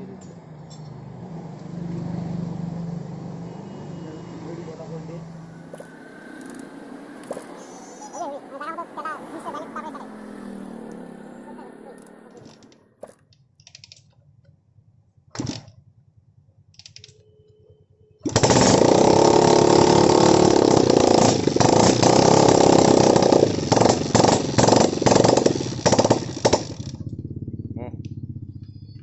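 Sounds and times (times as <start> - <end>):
motorcycle engine revving: 0.0 - 13.4, 18.2 - 29.0.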